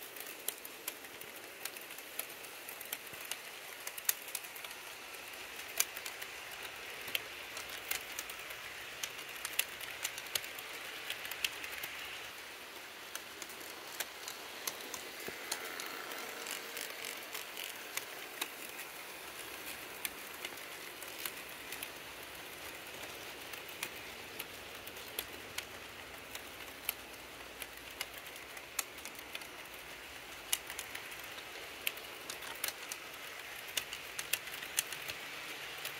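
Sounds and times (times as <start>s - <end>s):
model train cars rolling: 0.0s - 35.9s
wheels clicking over rails: 0.0s - 35.9s.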